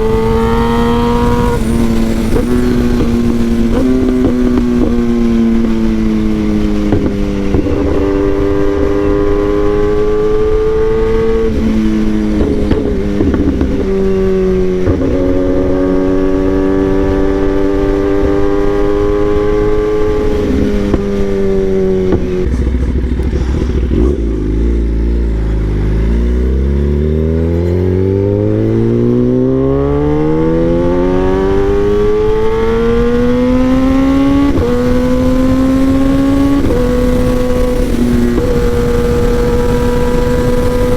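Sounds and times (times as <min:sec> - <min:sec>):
sport bike engine accelerating: 0:00.0 - 0:40.9.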